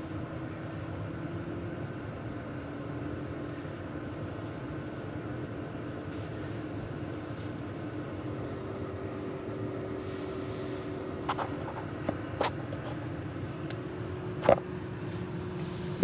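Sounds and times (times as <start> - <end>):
road and tyre noise: 0.0 - 16.0.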